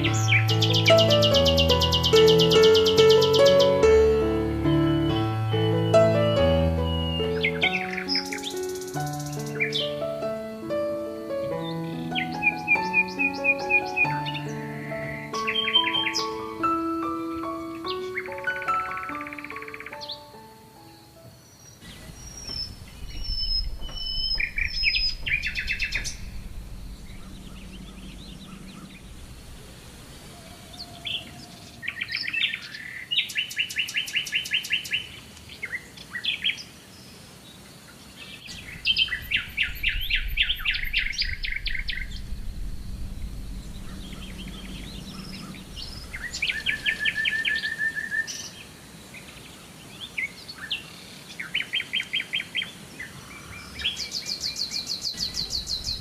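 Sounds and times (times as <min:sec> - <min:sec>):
songbirds trilled chirps: 0:00.0 - 0:10.4, 0:11.4 - 0:56.0.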